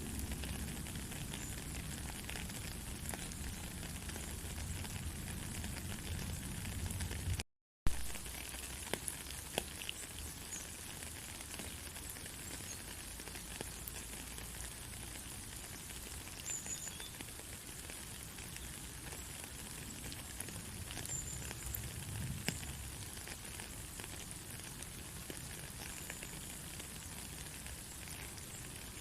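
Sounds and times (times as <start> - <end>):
rain drop clicks: 0.0 - 29.0
steady rain hiss: 0.0 - 29.0.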